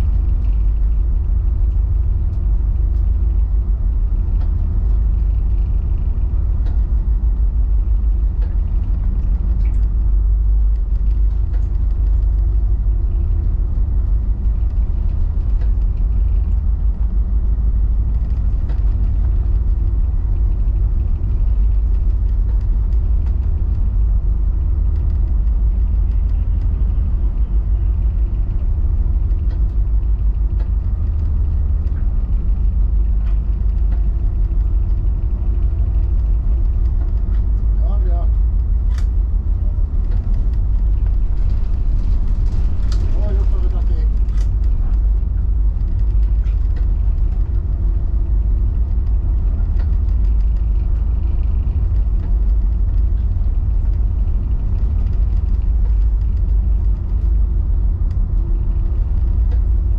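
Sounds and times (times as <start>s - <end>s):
boat engines rumbling: 0.0s - 59.9s
steady hum: 0.0s - 59.9s.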